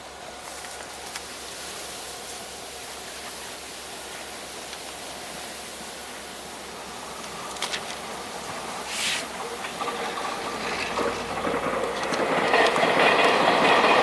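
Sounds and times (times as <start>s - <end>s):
train passing close by: 0.0s - 14.0s.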